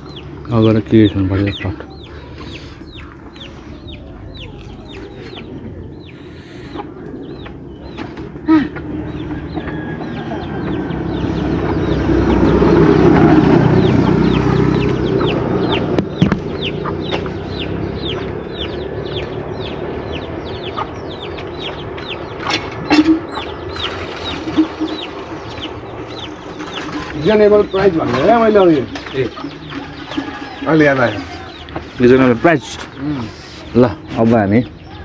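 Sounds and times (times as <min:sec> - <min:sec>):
chickens clucking: 0:00.0 - 0:35.0
chicks peeping: 0:00.0 - 0:35.0.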